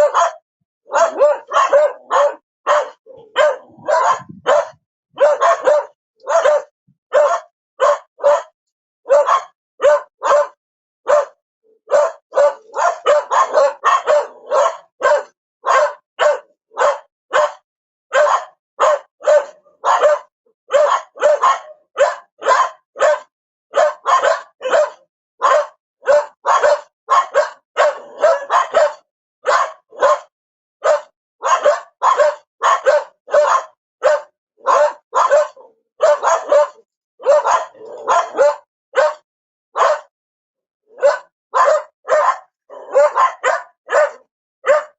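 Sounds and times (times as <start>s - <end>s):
dog barking: 0.0s - 40.2s, 40.9s - 44.9s.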